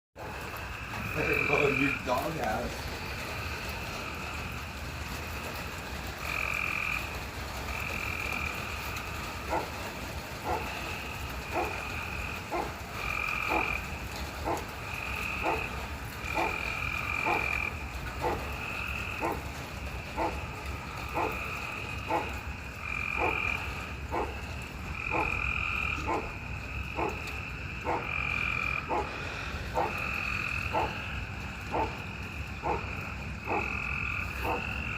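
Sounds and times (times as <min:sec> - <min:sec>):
frogs with high calls: 0:00.2 - 0:04.8, 0:05.4 - 0:34.9
frogs with low clicking calls: 0:00.2 - 0:34.9.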